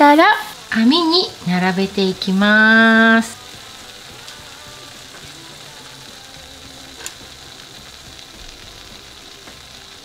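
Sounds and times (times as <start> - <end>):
quiet background music: 0.0 - 10.0
steady hiss: 0.0 - 10.0.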